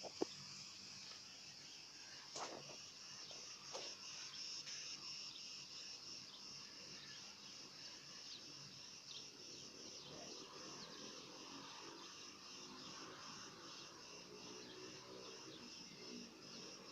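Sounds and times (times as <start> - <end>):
insects buzzing: 0.0 - 16.9.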